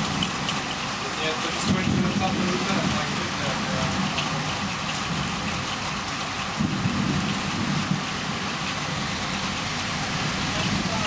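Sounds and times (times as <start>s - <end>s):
heavy rain pouring: 0.0s - 11.0s
low thunder rumble: 1.1s - 11.0s.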